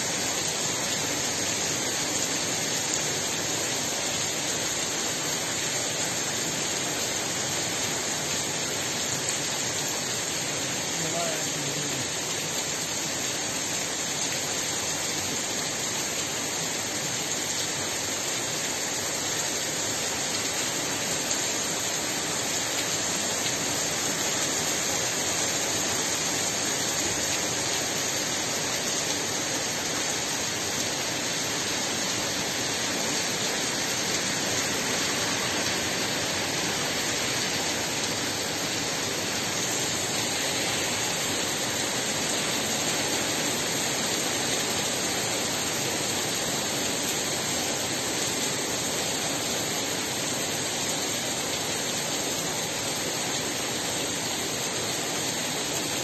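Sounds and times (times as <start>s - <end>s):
heavy rain on street and roofs: 0.0s - 56.0s.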